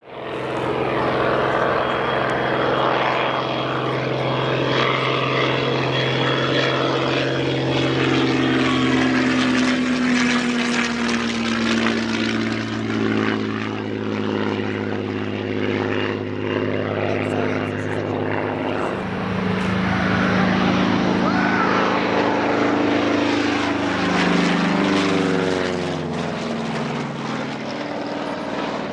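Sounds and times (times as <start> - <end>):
piston aero engine running: 0.0 - 28.9.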